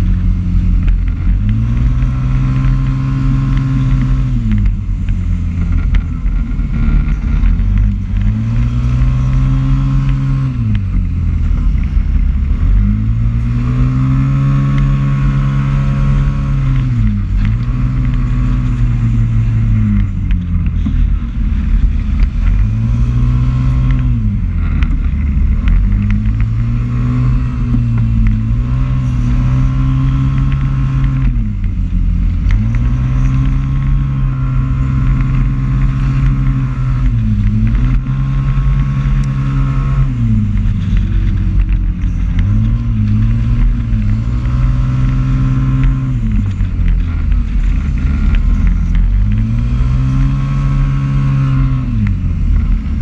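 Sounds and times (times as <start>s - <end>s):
motorcycle engine revving: 0.0s - 53.0s
wind rush on microphone: 0.0s - 53.0s.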